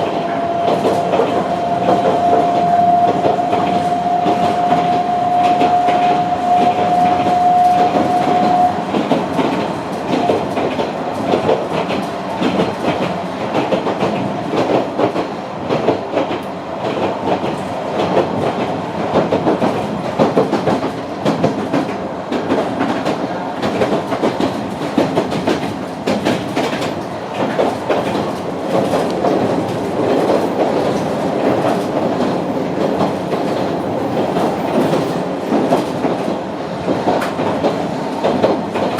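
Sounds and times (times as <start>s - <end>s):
train wheels clacking over rails: 0.0s - 38.9s.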